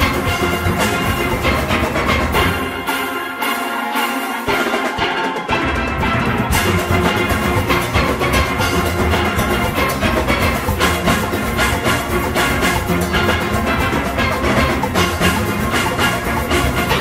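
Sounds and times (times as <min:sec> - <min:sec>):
bass: 0:00.0 - 0:02.8, 0:05.7 - 0:17.0
drums: 0:00.0 - 0:17.0
steelpans playing calypso: 0:00.0 - 0:17.0.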